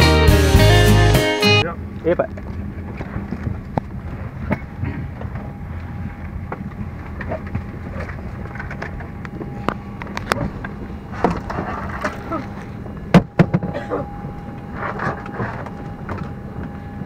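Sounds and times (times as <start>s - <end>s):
aircraft cabin hum: 1.8s - 17.0s.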